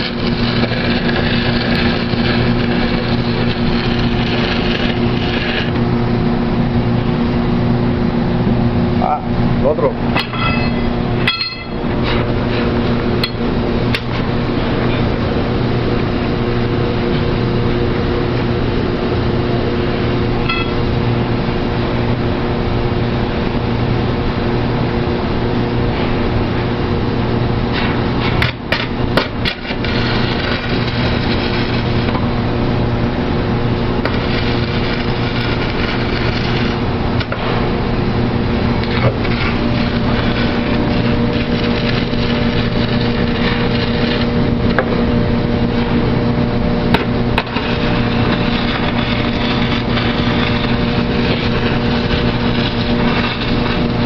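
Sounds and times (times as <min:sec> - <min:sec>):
welding arc crackling: 0:00.0 - 0:07.6, 0:10.3 - 0:21.7, 0:27.6 - 0:54.0
welding machine hum: 0:00.0 - 0:54.0.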